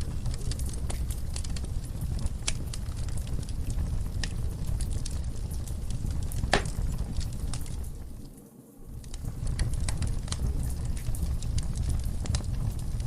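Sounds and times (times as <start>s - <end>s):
fire burning with crackles: 0.0s - 13.0s.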